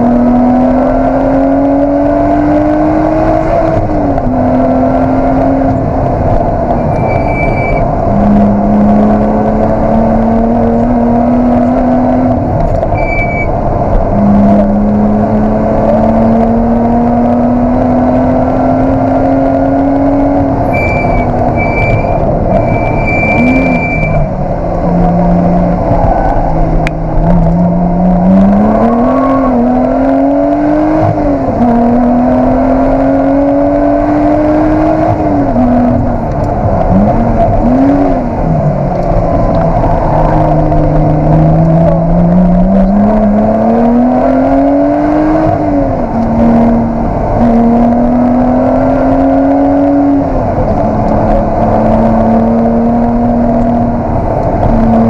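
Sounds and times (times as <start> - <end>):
car engine revving in cabin: 0.0 - 55.0.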